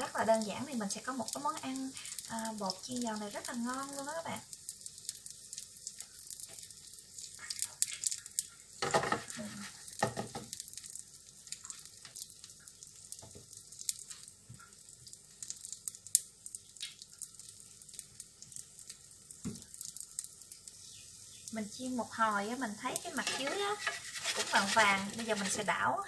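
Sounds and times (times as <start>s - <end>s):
batter sizzling in oil: 0.0s - 26.0s
oil crackles and pops: 0.0s - 26.0s.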